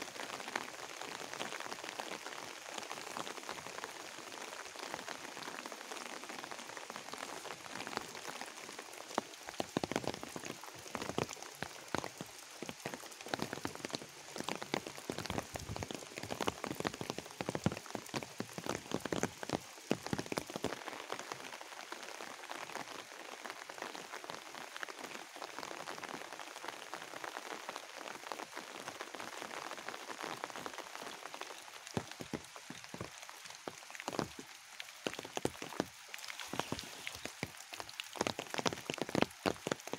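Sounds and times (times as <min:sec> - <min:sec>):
rain hiss: 0:00.0 - 0:39.9
raindrops ticking on leaves: 0:00.0 - 0:39.9.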